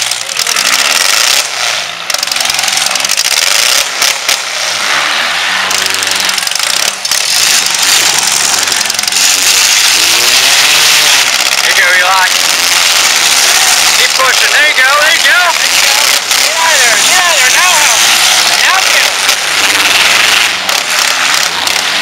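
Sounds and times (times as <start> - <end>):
car engines revving: 0.0 - 22.0
loud steady noise: 0.0 - 22.0.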